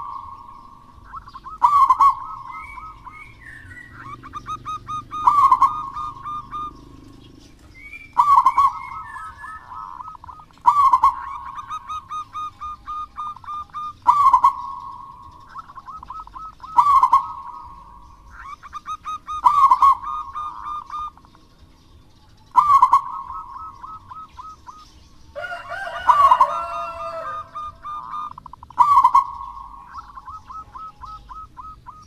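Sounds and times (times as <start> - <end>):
bird call with sliding notes: 0.0 - 32.0
dove cooing song: 0.0 - 32.0.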